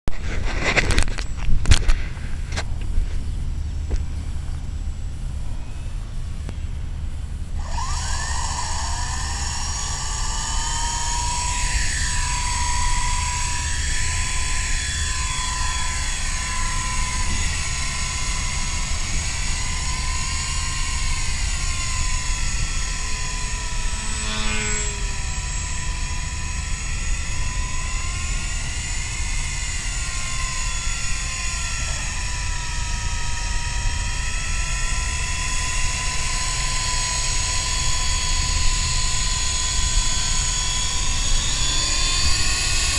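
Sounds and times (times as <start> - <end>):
toy helicopter motor whining: 7.3 - 42.9.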